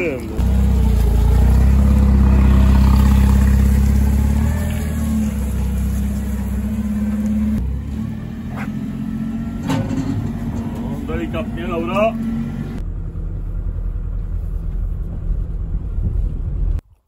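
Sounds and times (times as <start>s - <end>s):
forklift engine running hard: 0.0s - 16.7s.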